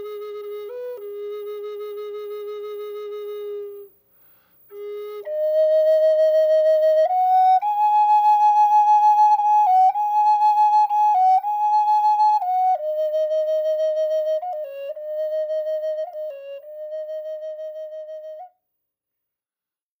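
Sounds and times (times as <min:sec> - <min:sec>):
flute melody: 0:00.0 - 0:03.9, 0:04.7 - 0:18.6.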